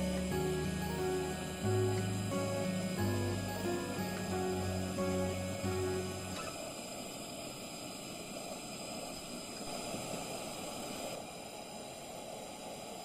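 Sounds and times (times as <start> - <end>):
steady hissing noise: 0.0 - 13.0.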